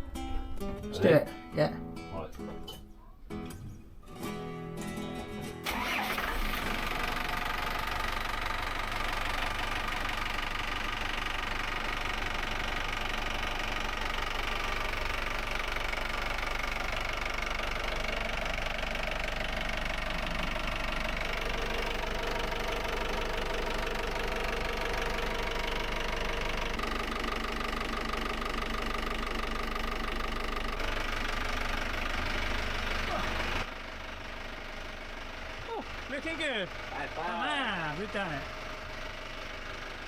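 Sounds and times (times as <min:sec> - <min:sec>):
diesel engine running with knock: 0:05.7 - 0:40.0.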